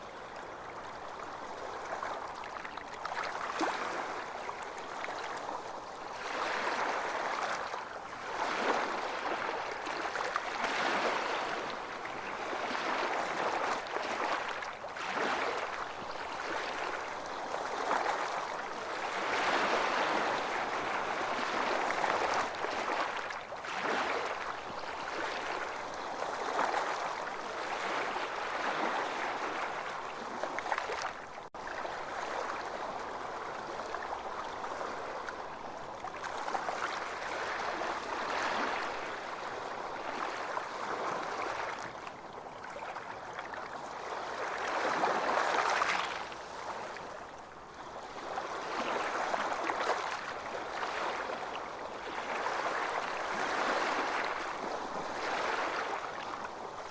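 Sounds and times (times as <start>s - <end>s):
ocean waves breaking on beach: 3.0s - 56.9s.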